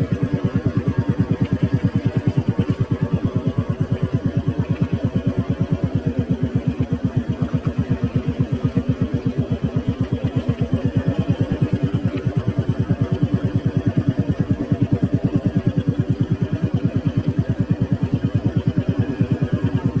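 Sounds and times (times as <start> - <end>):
vehicle engine chugging: 0.0 - 20.0.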